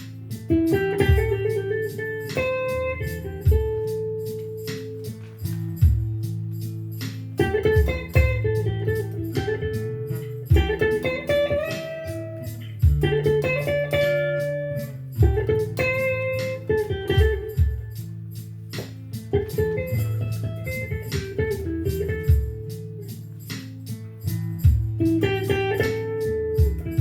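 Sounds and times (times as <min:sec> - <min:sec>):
blues guitar playing: 0:00.0 - 0:27.0.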